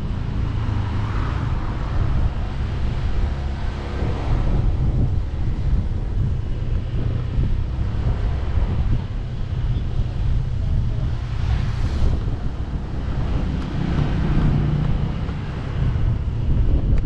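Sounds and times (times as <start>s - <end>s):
wind buffeting microphone: 0.0s - 17.0s
motorcycle engine running: 1.6s - 17.0s.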